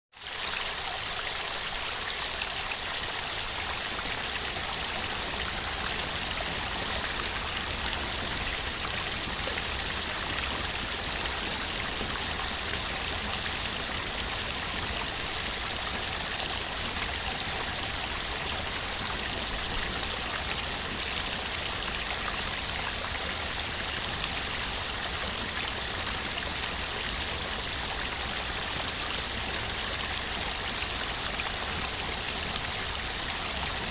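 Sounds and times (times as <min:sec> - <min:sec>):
waterfall and stream rushing: 0:00.2 - 0:33.9.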